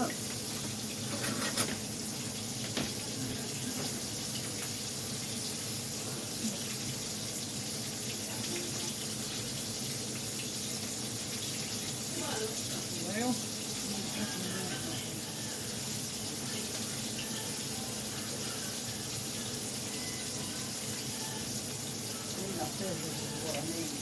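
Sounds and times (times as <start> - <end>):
watery hiss of kitchen: 0.0 - 24.0.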